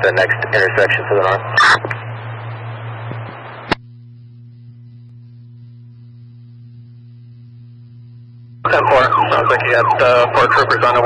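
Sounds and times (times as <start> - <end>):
low electrical hum: 0.0 - 11.0
radio static hiss: 0.0 - 11.0.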